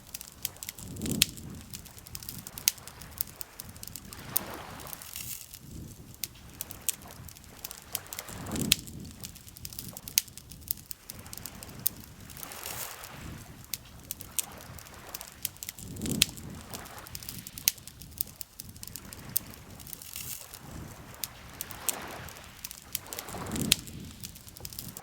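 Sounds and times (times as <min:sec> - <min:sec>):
lake water lapping: 0:00.0 - 0:10.0, 0:10.9 - 0:25.0
campfire crackling and popping: 0:00.0 - 0:25.0.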